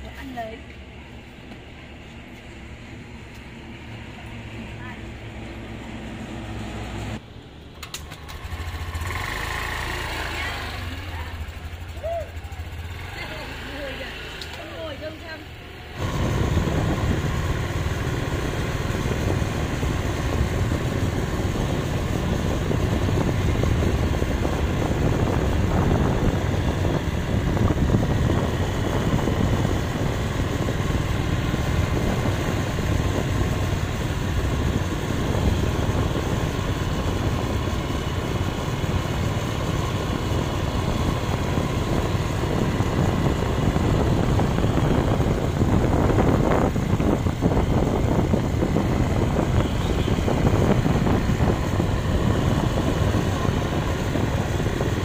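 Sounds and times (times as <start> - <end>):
road and wind noise: 0.0 - 55.0
scooter engines running: 0.0 - 55.0.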